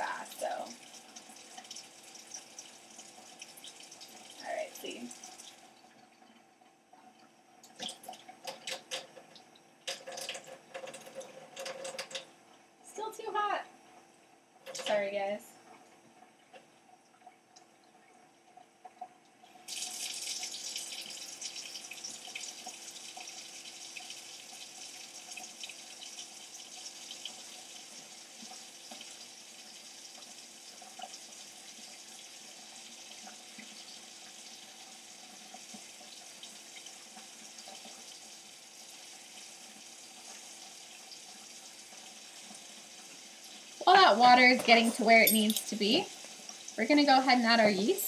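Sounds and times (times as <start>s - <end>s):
tap water running into sink: 0.0s - 5.9s, 7.6s - 12.3s, 19.6s - 48.0s.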